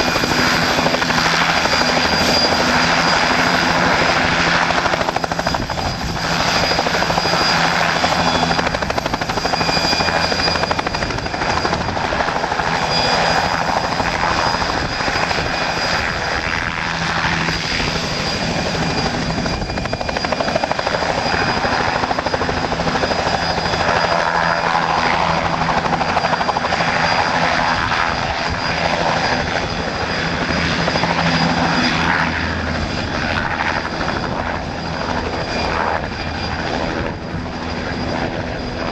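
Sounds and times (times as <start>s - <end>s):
helicopter rotor and engine noise: 0.0s - 38.9s.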